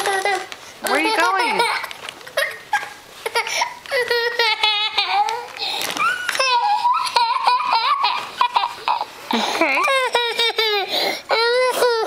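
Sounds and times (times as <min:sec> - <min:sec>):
toddler laughing and squealing: 0:00.0 - 0:12.0.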